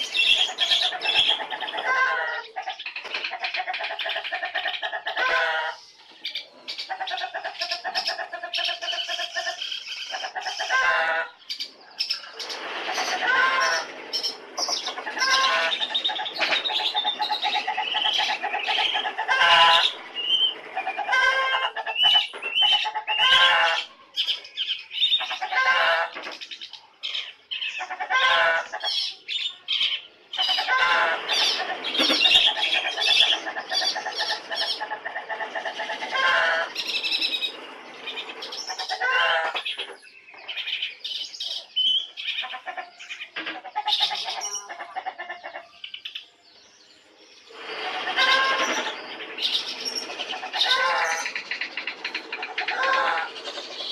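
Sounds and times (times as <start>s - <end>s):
songbird singing chirps and trills: 0.0s - 5.2s, 5.8s - 53.9s.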